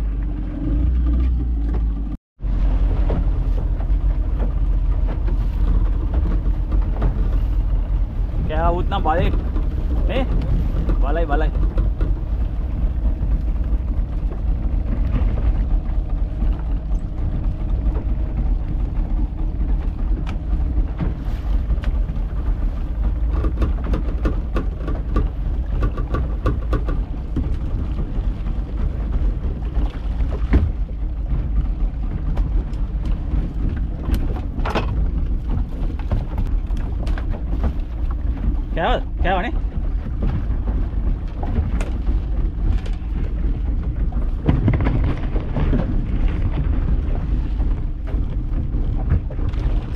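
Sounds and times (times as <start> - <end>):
outboard motor rumble: 0.0 - 49.9
wind on microphone: 0.0 - 49.9.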